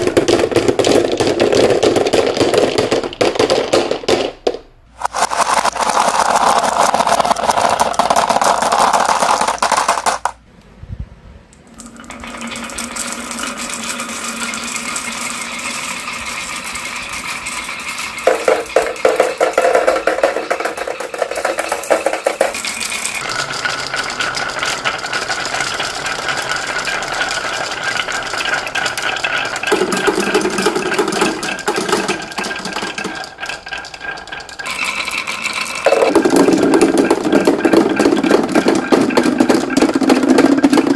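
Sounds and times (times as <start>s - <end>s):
marbles rattling down tracks: 0.0s - 10.4s, 11.8s - 40.9s.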